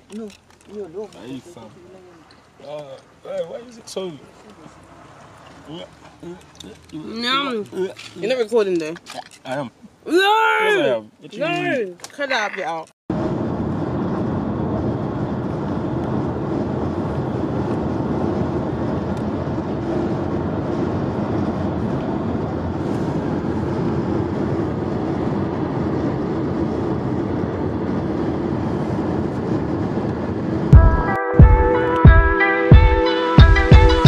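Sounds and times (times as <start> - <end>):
road and tyre noise in car: 0.0 - 32.2.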